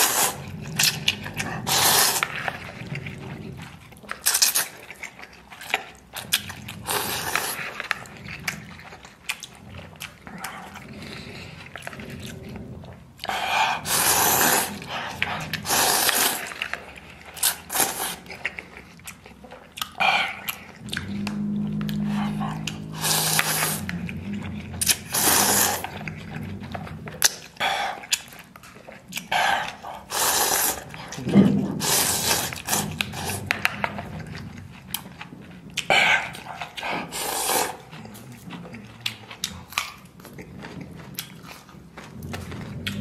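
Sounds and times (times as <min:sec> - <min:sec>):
noodles slurped loudly: 0:00.0 - 0:18.8, 0:19.8 - 0:24.2, 0:24.8 - 0:26.6, 0:27.2 - 0:33.8, 0:35.8 - 0:40.2
chewing: 0:00.0 - 0:43.0.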